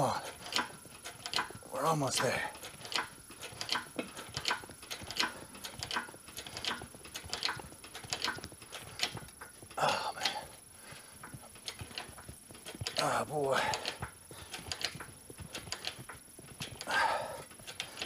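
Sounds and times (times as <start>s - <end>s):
hydraulic press clicks and knocks: 0.0s - 1.6s, 2.2s - 13.0s, 13.6s - 18.0s.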